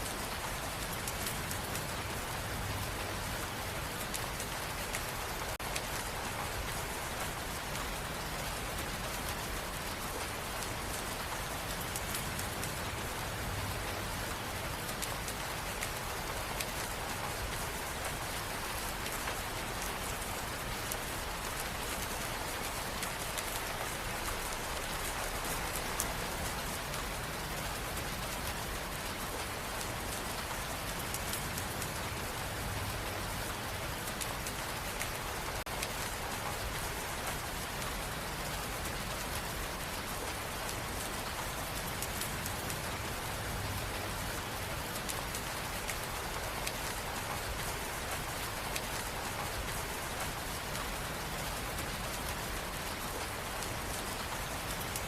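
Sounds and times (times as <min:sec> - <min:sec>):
rain on hard surface: 0:00.0 - 0:55.0.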